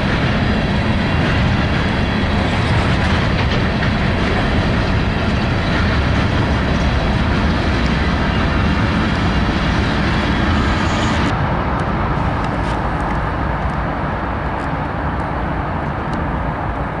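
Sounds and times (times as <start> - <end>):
freight locomotives passing: 0.0 - 17.0.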